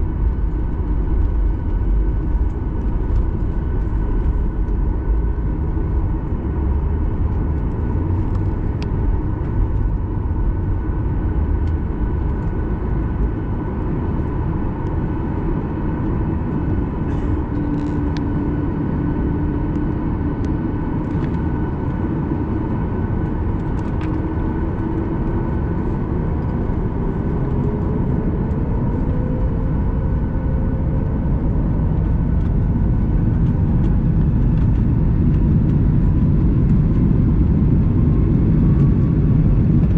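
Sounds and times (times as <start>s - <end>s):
jet engine rumble and whine: 0.0s - 39.9s.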